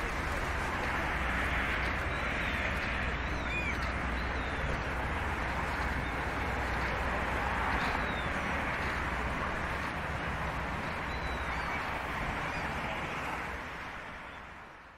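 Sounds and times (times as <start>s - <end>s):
pedestrians: 0.0s - 14.9s
road traffic hum: 0.0s - 14.9s.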